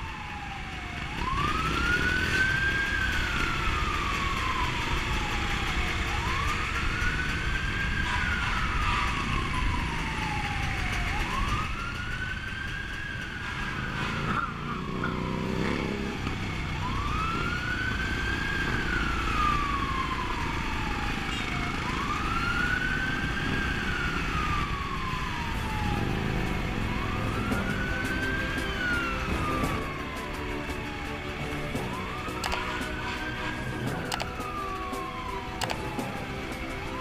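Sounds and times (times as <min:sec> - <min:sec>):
motorcycle engines rumbling: 0:00.0 - 0:37.0
siren wailing: 0:00.0 - 0:37.0.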